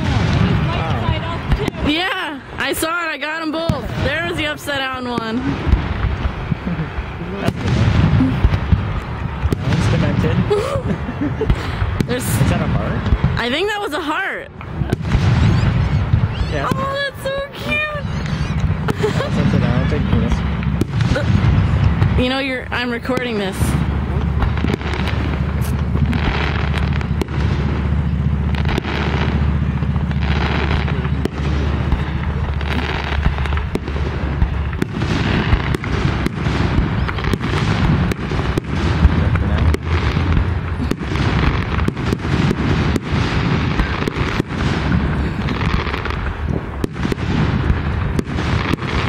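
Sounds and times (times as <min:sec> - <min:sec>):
low rumble: 0:00.0 - 0:13.6, 0:14.4 - 0:49.0
fireworks bangs and booms: 0:00.0 - 0:49.0.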